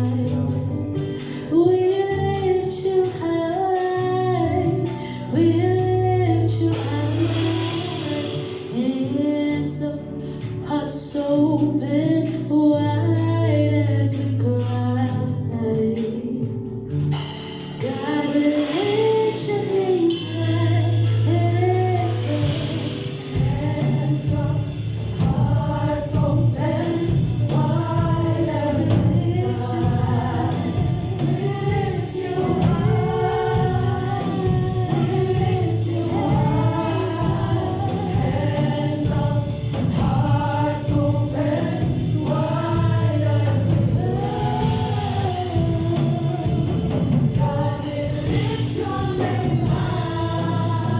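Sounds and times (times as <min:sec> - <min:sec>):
gospel choir singing: 0:00.0 - 0:09.8, 0:17.4 - 0:50.9
low bass notes: 0:00.0 - 0:50.9.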